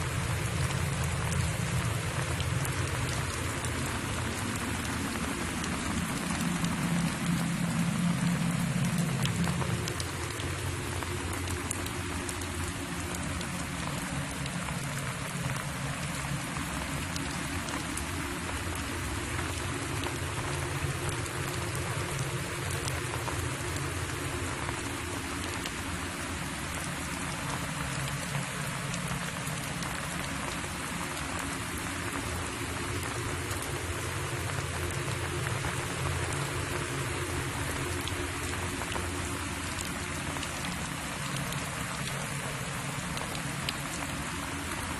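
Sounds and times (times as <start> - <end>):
crackling hiss with clicks: 0.0 - 44.9.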